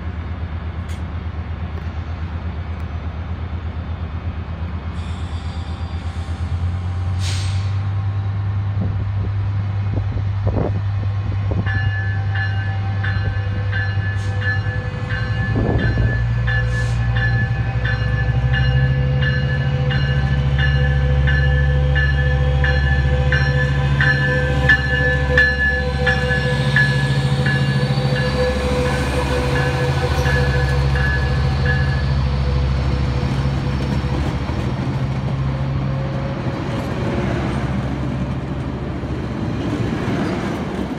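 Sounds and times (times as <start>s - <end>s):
diesel locomotive engine drone: 0.0s - 40.9s
train coaches rolling past: 0.0s - 40.9s.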